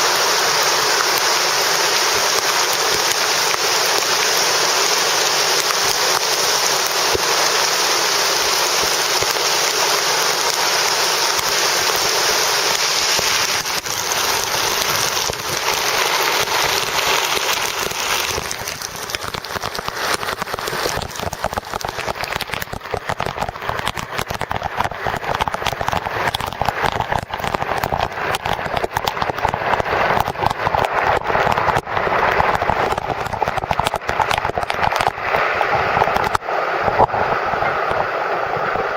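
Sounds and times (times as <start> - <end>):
heavy rainfall hiss: 0.0 - 38.9
raindrops splatting close: 0.0 - 38.9.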